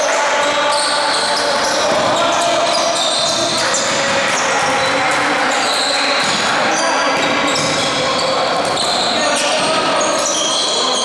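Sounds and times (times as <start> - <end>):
players' voices echoing: 0.0 - 11.0
sneakers squeaking: 0.4 - 11.0
basketball bouncing on court: 1.2 - 10.2.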